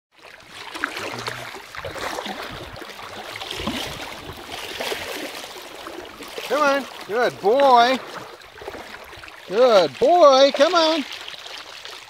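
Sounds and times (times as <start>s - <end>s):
puppy splashing in water: 0.3s - 12.0s.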